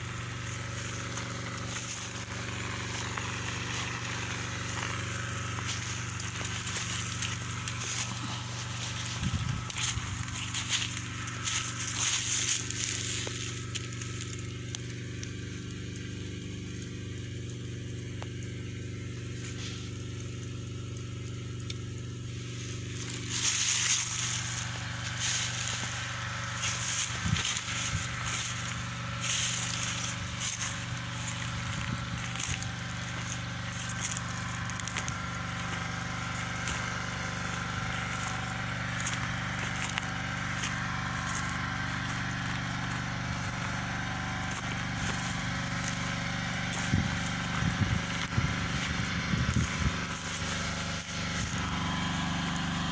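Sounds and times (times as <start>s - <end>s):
footsteps through dry grass: 0.0s - 52.9s
generator engine humming: 0.0s - 52.9s.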